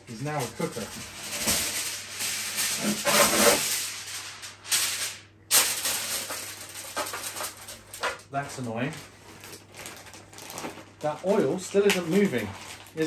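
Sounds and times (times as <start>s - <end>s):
packaging rustling and rattling: 0.2s - 13.0s.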